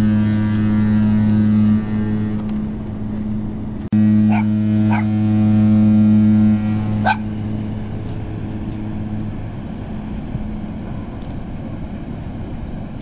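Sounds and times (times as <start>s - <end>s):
deep ship horn blast: 0.0s - 11.9s.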